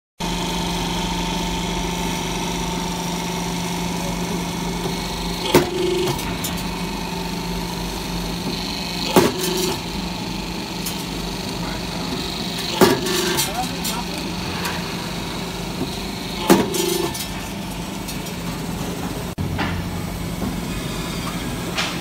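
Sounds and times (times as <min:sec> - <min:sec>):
roll forming machine humming: 0:00.2 - 0:22.0.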